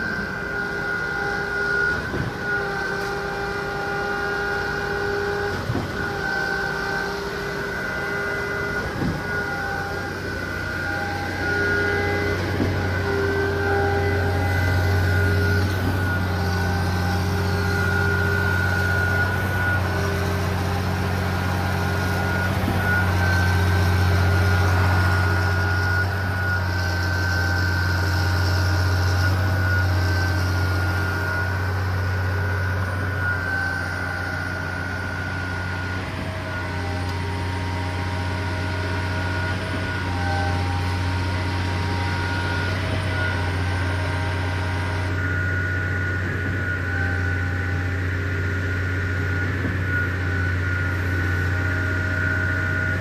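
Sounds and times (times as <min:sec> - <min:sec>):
diesel engines droning: 0:00.0 - 0:53.0
high-pitched whine: 0:00.0 - 0:53.0.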